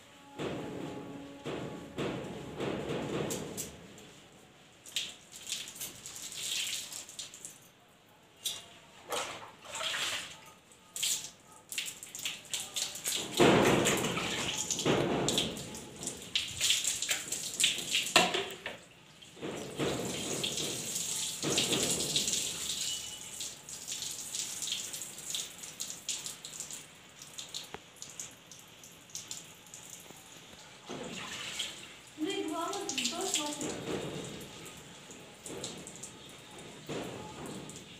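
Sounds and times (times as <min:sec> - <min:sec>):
water dripping and splashing: 0:02.2 - 0:37.9.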